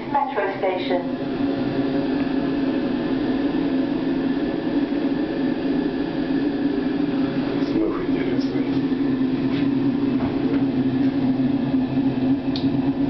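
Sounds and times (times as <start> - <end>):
electric train running hum: 0.0 - 13.0.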